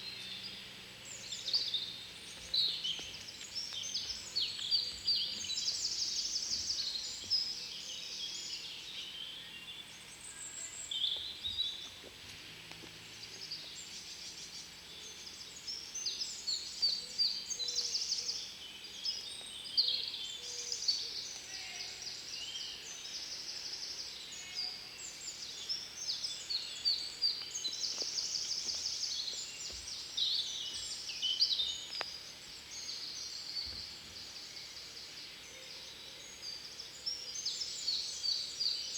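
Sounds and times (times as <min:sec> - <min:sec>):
faint background hiss: 0:00.0 - 0:38.9
songbirds singing: 0:00.0 - 0:38.9.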